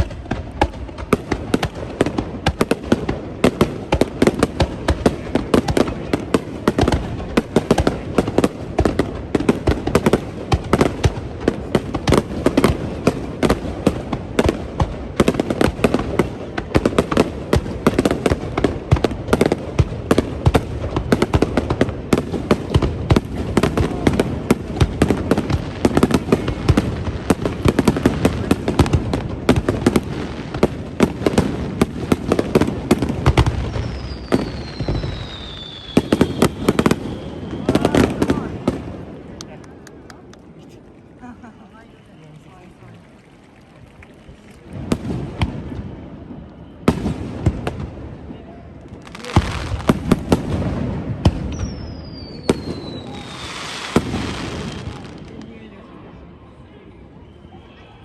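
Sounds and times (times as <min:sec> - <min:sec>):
fireworks bursting: 0:00.0 - 0:55.7.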